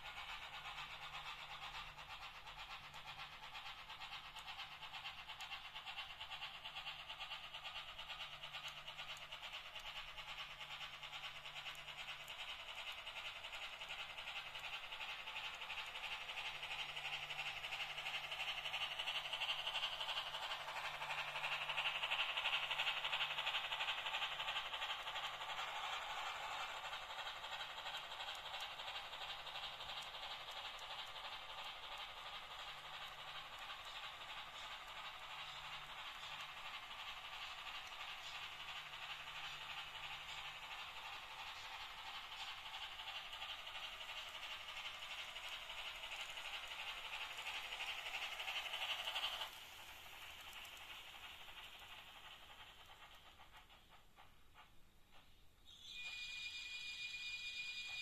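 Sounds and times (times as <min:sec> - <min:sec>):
model train wheels rattling: 0:00.0 - 0:56.3.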